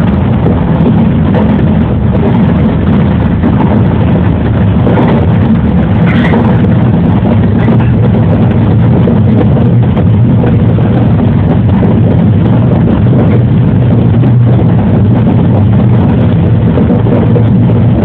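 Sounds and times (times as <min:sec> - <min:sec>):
low motor drone: 0:00.0 - 0:18.0
train wheels rumbling on rail: 0:00.0 - 0:18.0.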